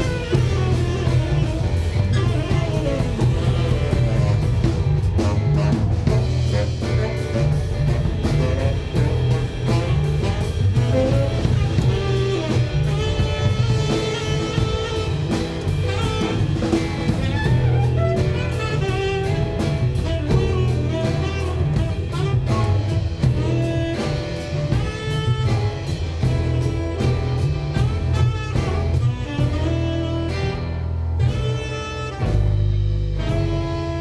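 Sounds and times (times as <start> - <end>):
drum kit cymbal hits: 0.0 - 34.0
saxophone melody: 0.0 - 34.0
upright bass walking line: 0.0 - 34.0.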